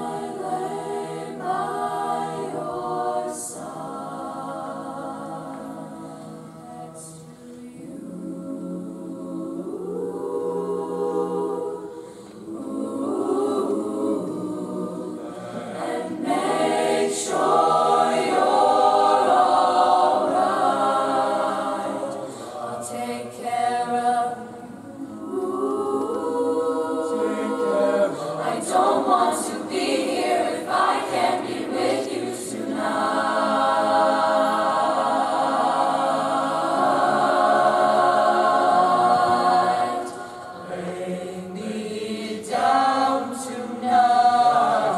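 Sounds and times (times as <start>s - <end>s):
mixed-voice choir singing a cappella: 0.0s - 44.9s.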